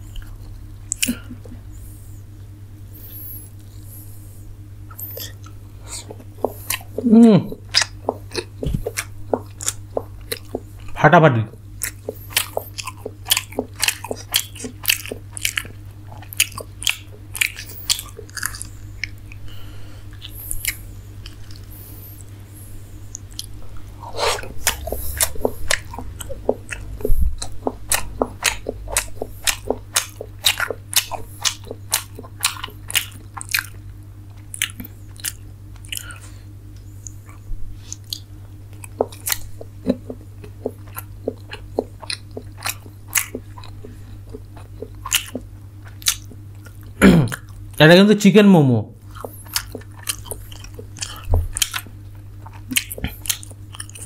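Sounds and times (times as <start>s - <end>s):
chewing soft food: 0.0s - 47.8s, 49.0s - 54.0s
faint low hum: 0.0s - 54.0s.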